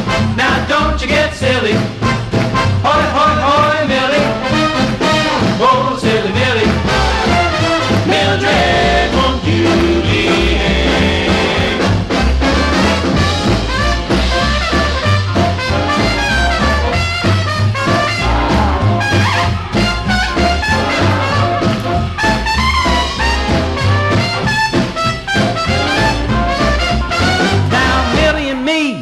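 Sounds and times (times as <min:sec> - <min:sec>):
trumpets and trombones playing: 0:00.0 - 0:00.7, 0:02.0 - 0:28.6
walking bass line: 0:00.0 - 0:28.6.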